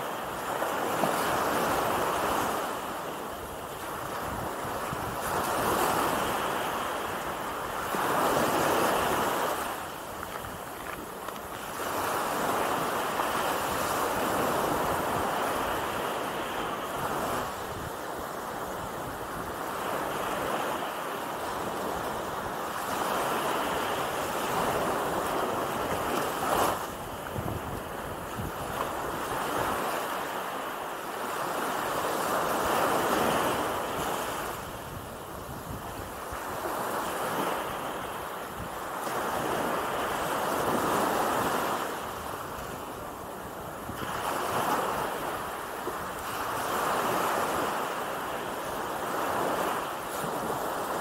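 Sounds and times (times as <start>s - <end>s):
small waves breaking on sand: 0.0s - 51.0s.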